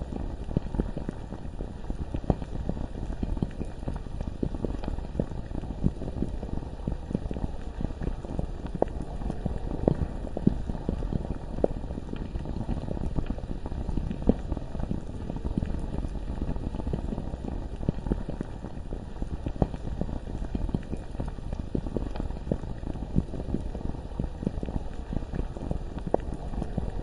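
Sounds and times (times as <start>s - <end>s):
lava bubbling pops: 0.0s - 27.0s.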